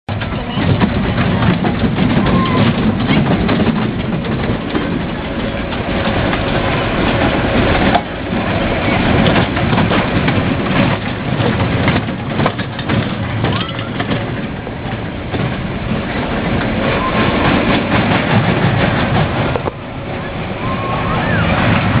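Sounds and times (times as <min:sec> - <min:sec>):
roller coaster rumbling and clicking: 0:00.1 - 0:22.0.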